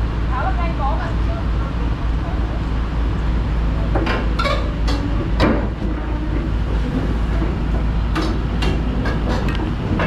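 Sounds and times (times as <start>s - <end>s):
excavator diesel engine rumbling: 0.0s - 10.0s.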